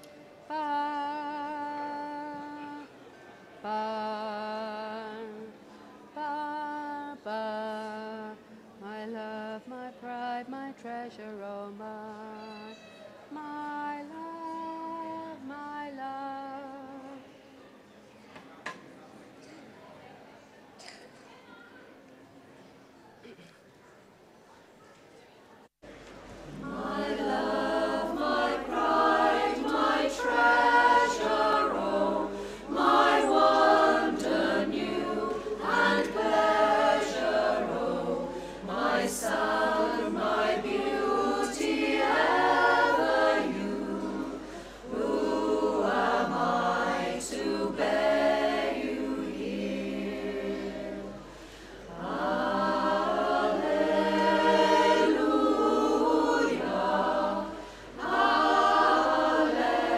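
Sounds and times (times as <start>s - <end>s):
women's choir singing a cappella: 0.0s - 3.0s, 3.6s - 12.5s, 13.3s - 17.4s, 26.4s - 59.9s.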